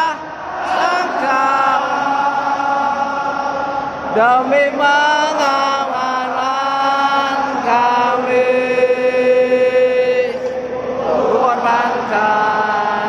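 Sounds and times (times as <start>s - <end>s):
stadium crowd singing a chant: 0.0s - 13.0s.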